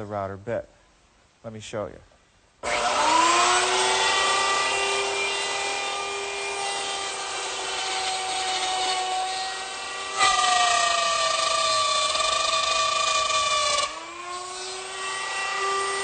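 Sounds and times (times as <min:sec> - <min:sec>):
router bit cutting wood: 0:02.6 - 0:16.0
router motor whining: 0:02.6 - 0:16.0.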